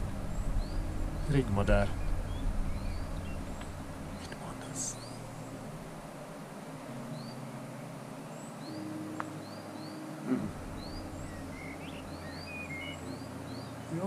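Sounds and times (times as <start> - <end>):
thrush chirping: 0.0 - 14.0.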